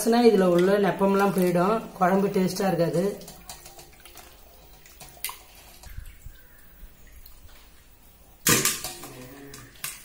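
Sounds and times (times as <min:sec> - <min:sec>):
hands washing meat in water: 0:00.0 - 0:10.0.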